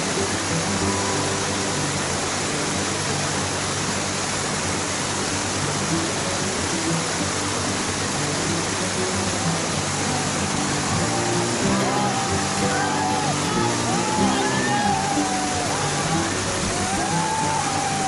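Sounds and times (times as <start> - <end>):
faint music: 0.0 - 18.0
river rapids rushing: 0.0 - 18.0.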